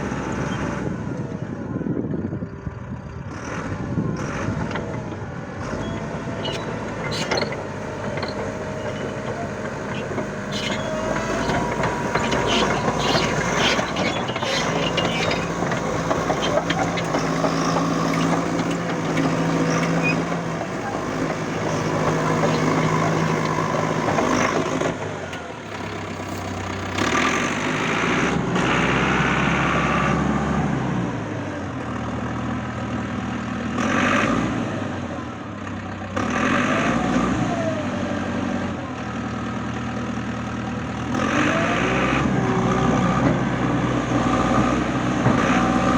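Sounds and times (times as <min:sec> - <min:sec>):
bulldozer diesel engine: 0:00.0 - 0:45.9.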